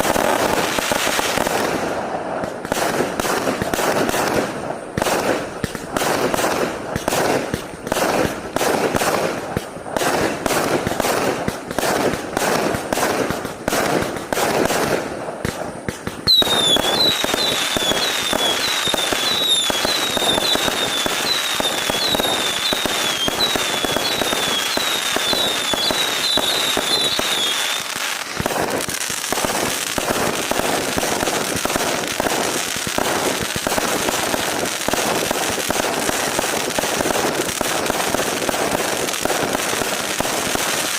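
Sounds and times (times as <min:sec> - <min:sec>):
falling firework whistles: 0:00.0 - 0:40.9
fireworks shots crackling: 0:00.0 - 0:40.9.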